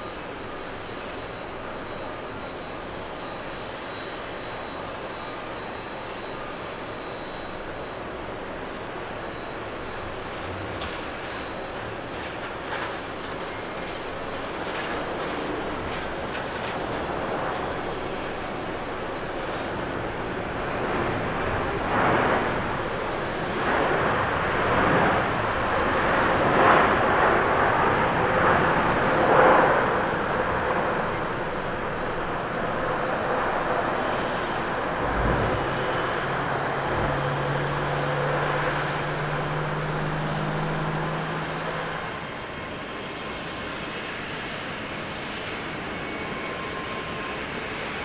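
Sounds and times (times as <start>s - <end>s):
jet engines surging: 0.0s - 48.0s.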